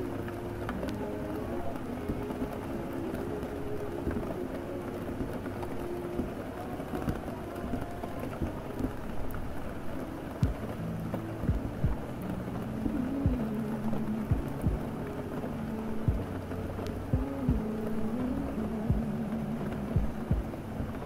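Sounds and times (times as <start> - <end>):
muffled music: 0.0 - 21.0
steady rain: 0.0 - 21.0.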